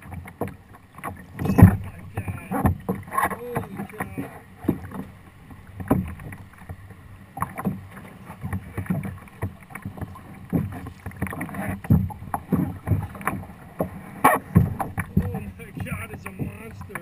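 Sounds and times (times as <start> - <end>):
knocks and splashes: 0.0 - 17.0
water slapping against kayak hull: 0.0 - 17.0.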